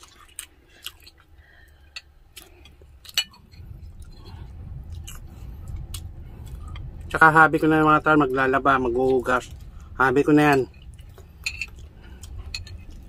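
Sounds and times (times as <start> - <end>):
chewing soft meat: 0.0 - 7.3, 8.8 - 13.0
low rumble: 2.2 - 13.0.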